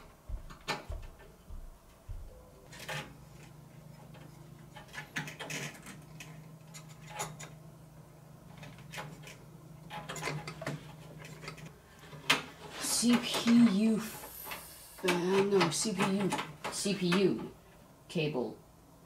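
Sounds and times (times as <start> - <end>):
steady low hum: 0.0 - 19.0
clicks and knocks of handling parts: 0.5 - 2.0, 2.7 - 7.7, 8.4 - 17.5.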